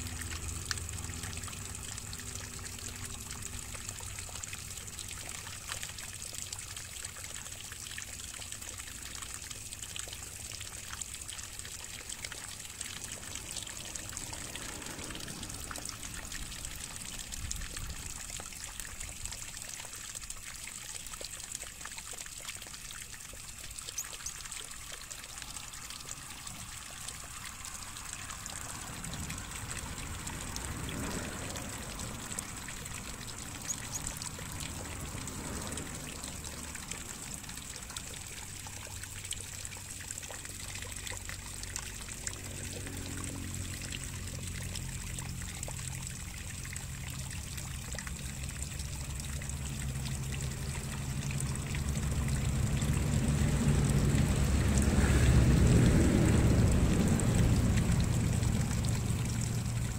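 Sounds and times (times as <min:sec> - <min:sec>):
water trickling and pouring: 0:00.0 - 0:59.9.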